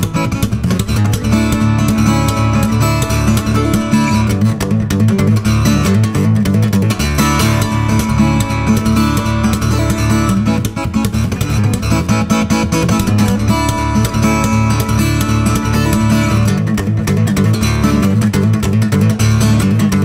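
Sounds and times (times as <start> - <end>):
acoustic guitar song with beat: 0.0 - 20.0.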